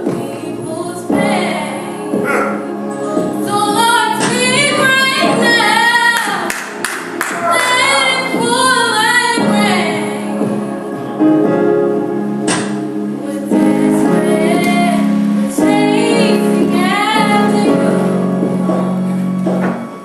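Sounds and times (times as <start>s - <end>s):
girls singing a gospel song: 0.0s - 19.8s.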